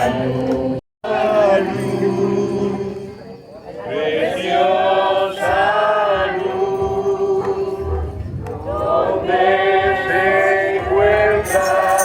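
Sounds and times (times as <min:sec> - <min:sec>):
group singing worship chorus: 0:00.0 - 0:03.1, 0:03.8 - 0:12.0.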